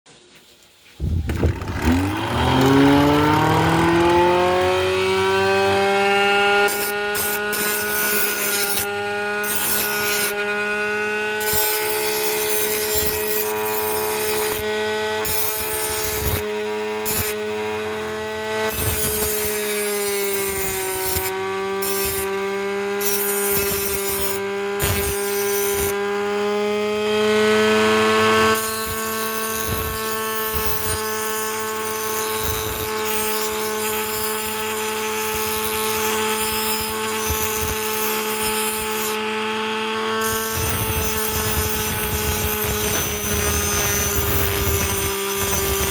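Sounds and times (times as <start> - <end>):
blade scraping abrasive: 1.0 - 45.9
blender motor whining: 1.0 - 45.9.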